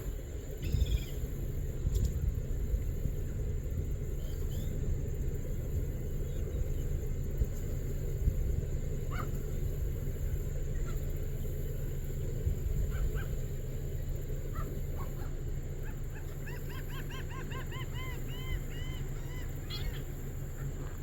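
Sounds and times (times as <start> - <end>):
birds calling: 0.0 - 21.0
steady low rumble: 0.0 - 21.0.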